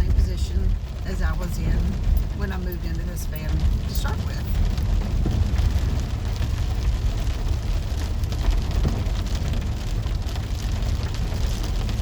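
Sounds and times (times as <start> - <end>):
rain pattering on windshield and roof: 0.0 - 12.0
van driving rumble: 0.0 - 12.0.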